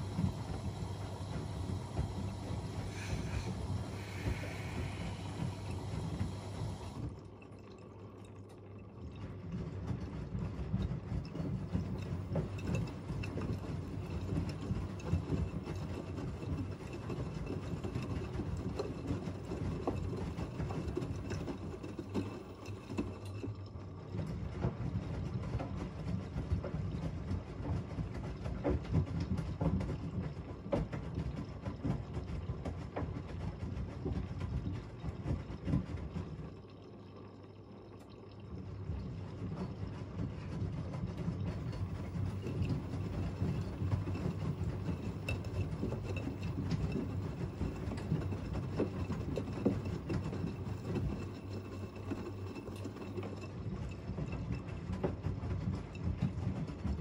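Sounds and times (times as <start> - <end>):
water sloshing in washing machines: 0.0 - 57.0.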